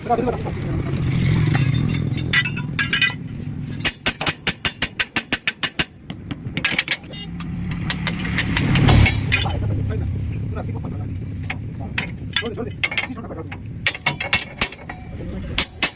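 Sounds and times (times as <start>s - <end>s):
vehicle engine rumbling: 0.0s - 15.9s.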